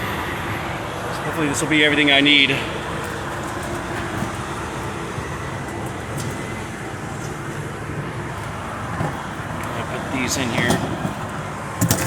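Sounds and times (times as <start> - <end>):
highway traffic roar: 0.0 - 12.0.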